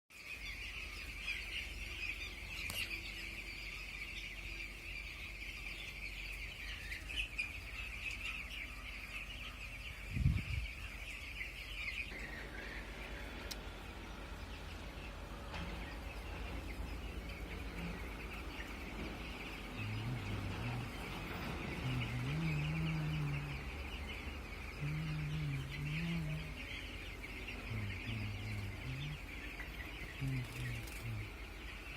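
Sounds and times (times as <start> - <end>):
chickens chirping: 0.2 - 31.9
low chicken clucks: 0.4 - 31.9.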